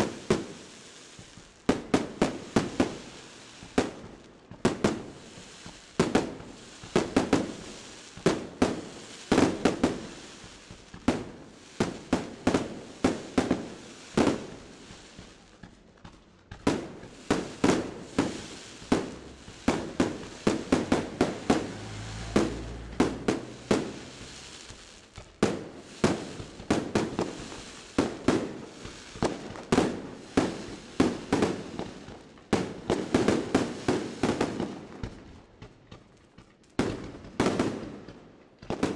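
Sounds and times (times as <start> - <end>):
firework shells bursting: 1.4 - 38.9.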